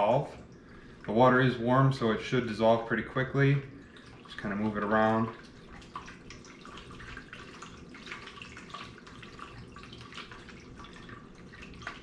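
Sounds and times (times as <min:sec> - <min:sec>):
water sloshing in plastic tub: 0:00.0 - 0:12.0.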